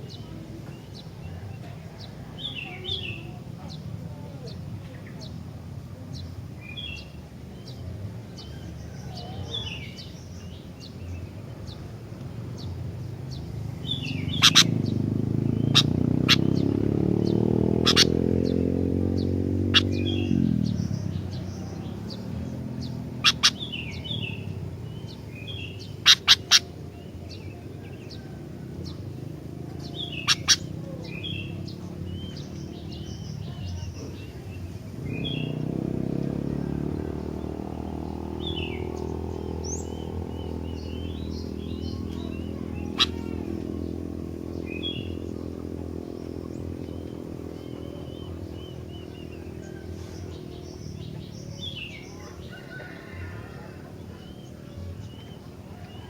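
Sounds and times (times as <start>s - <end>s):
bird singing chirping phrases: 0.0s - 56.0s
engine running: 10.6s - 56.0s.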